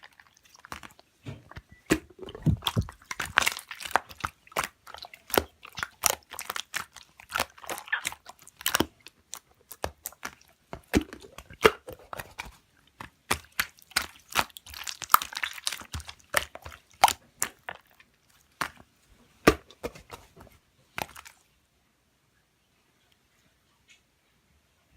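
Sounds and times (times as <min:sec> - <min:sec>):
slime squished by hand: 0:00.0 - 0:21.4.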